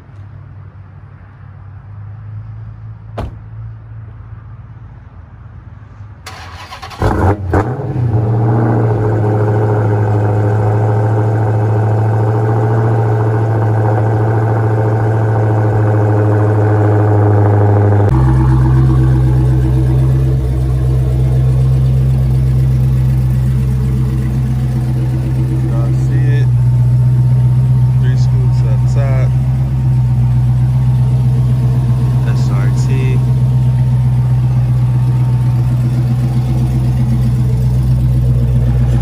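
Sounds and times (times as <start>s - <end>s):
car engine revving and idling: 6.3s - 39.0s.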